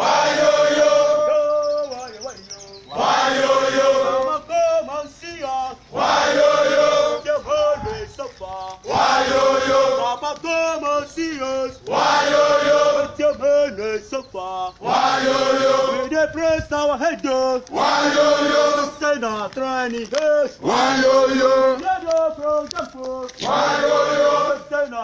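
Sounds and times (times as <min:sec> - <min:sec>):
group of men chanting: 0:00.0 - 0:02.1, 0:02.9 - 0:16.2, 0:17.7 - 0:19.5, 0:20.3 - 0:25.0.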